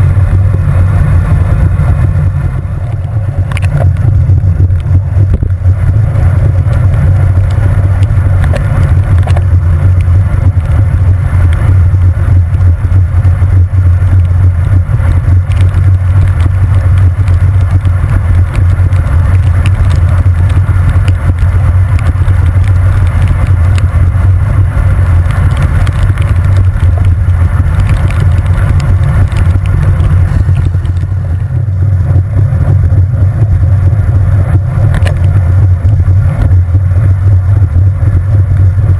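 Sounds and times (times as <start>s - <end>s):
wet tyres hissing: 0.0s - 38.9s
wind rumble on microphone: 0.0s - 38.9s.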